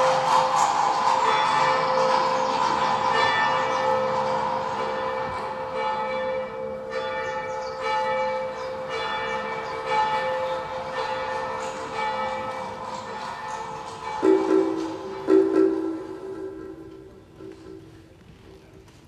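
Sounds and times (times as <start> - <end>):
bells ringing: 0.0 - 18.0.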